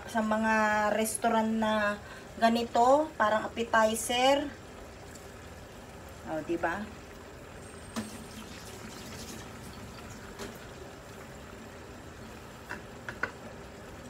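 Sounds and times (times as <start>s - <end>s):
onions sizzling in pot: 0.0s - 14.0s.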